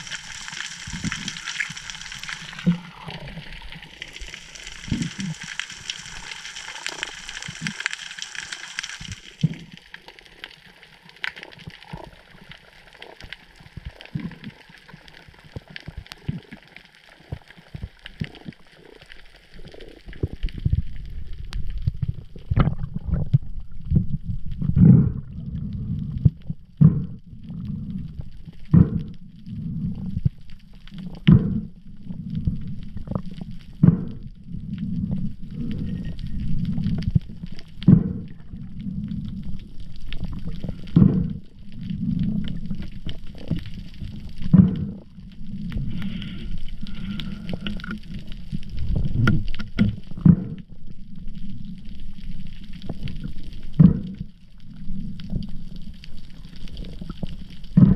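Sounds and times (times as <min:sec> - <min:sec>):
muffled water sloshing and gurgling: 0:00.0 - 0:57.9.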